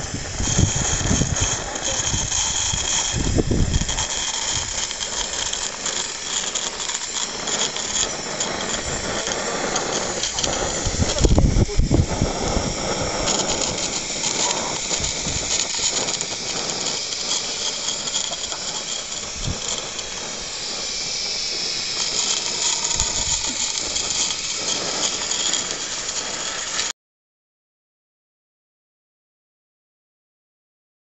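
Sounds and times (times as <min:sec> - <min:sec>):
model steam locomotive hissing: 0:00.0 - 0:26.9.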